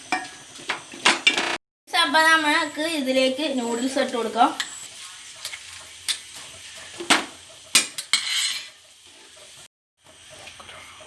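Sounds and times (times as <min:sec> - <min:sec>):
light sizzle: 0:00.0 - 0:11.0.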